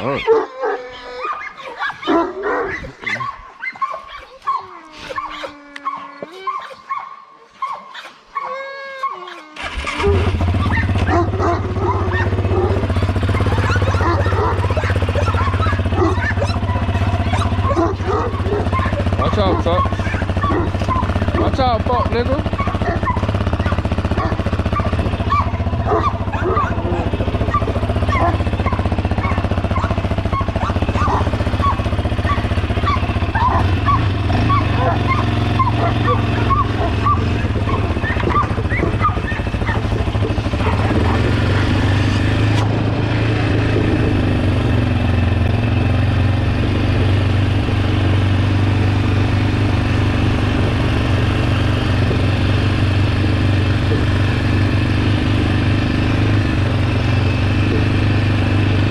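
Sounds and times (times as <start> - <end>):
low engine-like drone: 9.6 - 58.9.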